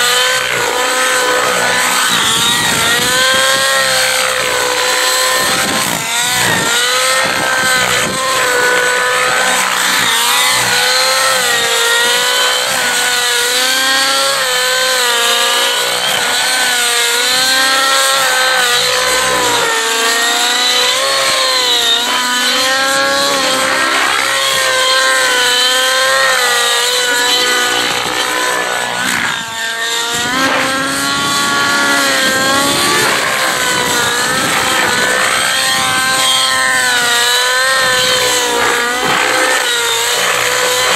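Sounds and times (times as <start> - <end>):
rc helicopter engine buzzing: 0.0 - 40.9.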